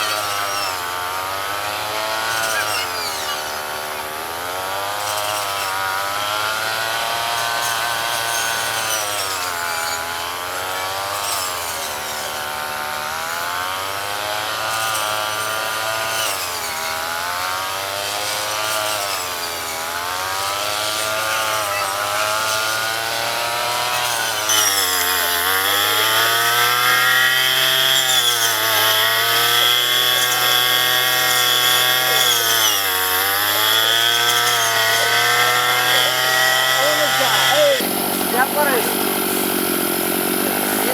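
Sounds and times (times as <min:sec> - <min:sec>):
two-stroke engine at high revs: 0:00.0 - 0:40.9.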